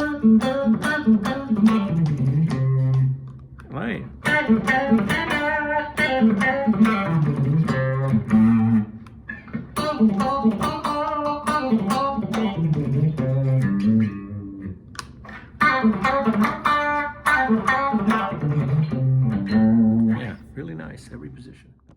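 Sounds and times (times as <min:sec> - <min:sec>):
electric guitar through amplifier: 0:00.0 - 0:20.5.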